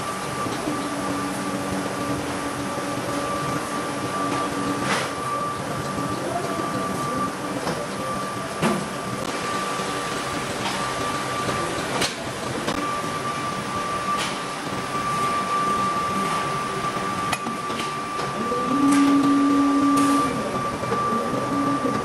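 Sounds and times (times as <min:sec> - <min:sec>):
high steady whine: 0:00.0 - 0:22.0.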